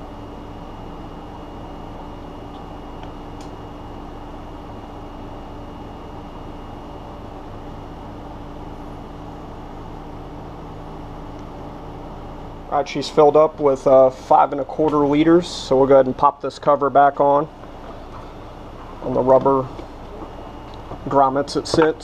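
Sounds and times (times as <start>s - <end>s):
machine hum with high whine: 0.0s - 22.0s.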